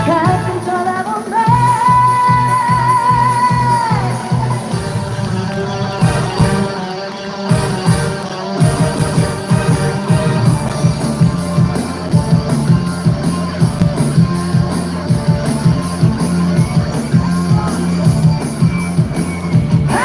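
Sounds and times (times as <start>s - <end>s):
upbeat instrumental over pa: 0.0s - 20.0s.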